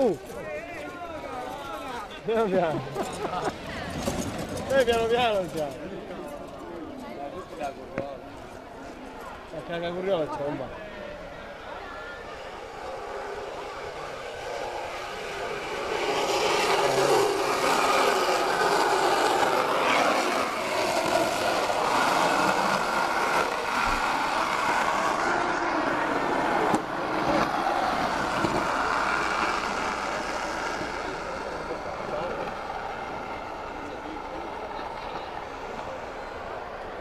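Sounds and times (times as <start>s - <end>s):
wheels rolling on asphalt: 0.0s - 37.0s.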